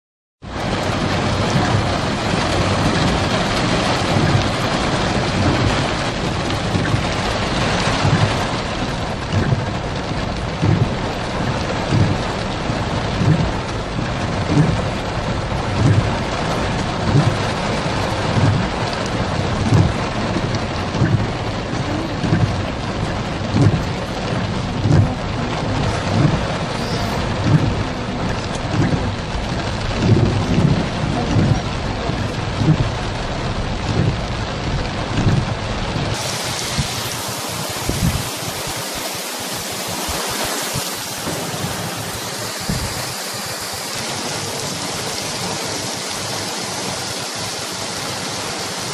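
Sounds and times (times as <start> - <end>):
heavy rain hissing: 0.5 - 48.9
low thumps: 0.7 - 44.0.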